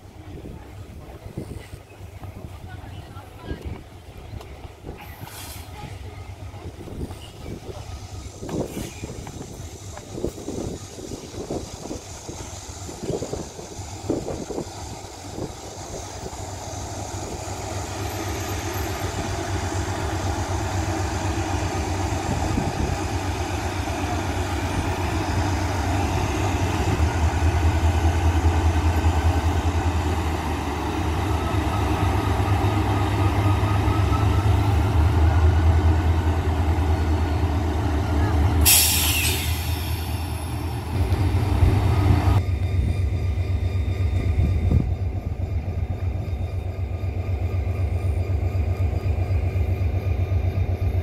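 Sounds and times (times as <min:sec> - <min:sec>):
diesel locomotive engine rumbling: 0:00.0 - 0:51.0.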